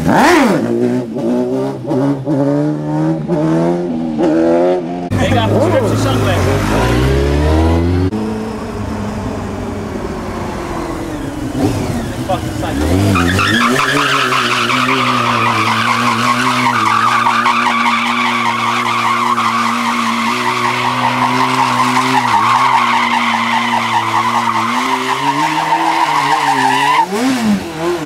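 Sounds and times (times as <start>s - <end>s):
motorcycle engine revving high: 0.0s - 28.0s
rushing tyre noise: 0.0s - 28.0s.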